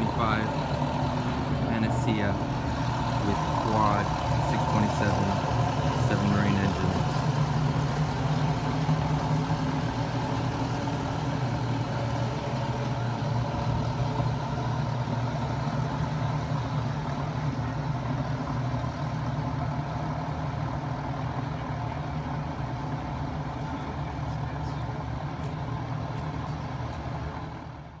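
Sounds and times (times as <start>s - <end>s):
outboard engines idling: 0.0s - 28.0s.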